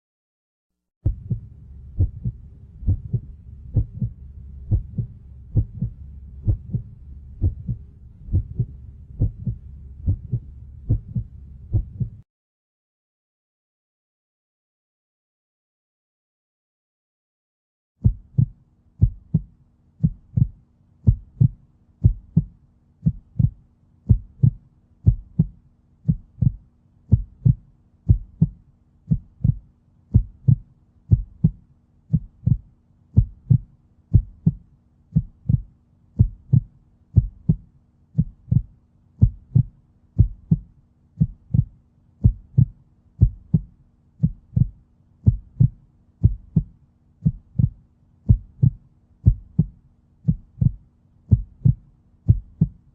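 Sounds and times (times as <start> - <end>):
heartbeat thumps: 1.0 - 12.2, 18.0 - 52.8.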